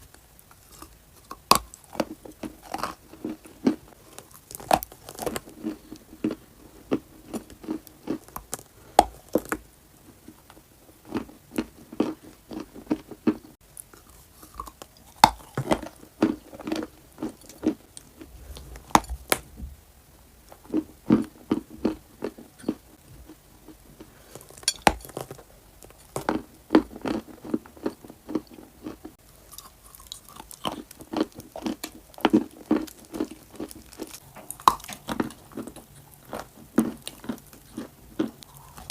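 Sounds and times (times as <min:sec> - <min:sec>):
dry clay crunching when chewed: 0:00.0 - 0:09.6, 0:10.4 - 0:19.5, 0:20.5 - 0:38.9.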